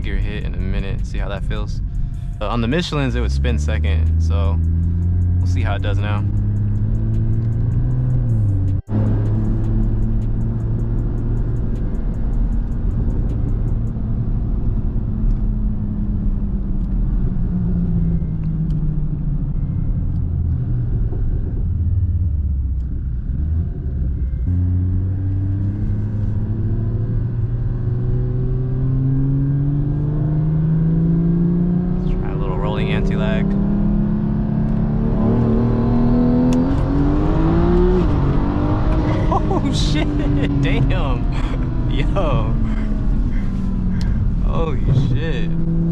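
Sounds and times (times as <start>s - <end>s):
car engine accelerating: 0.0s - 45.9s
road rumble: 0.0s - 45.9s.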